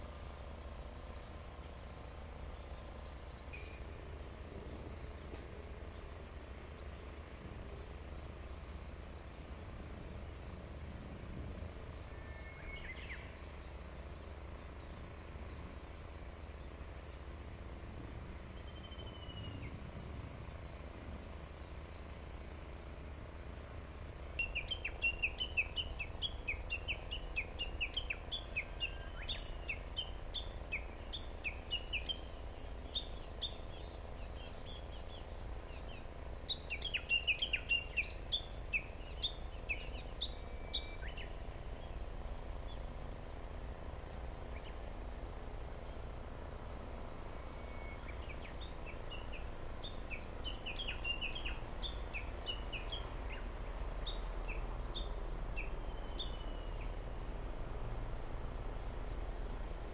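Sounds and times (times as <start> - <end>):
small songbirds calling: 0.0 - 59.9.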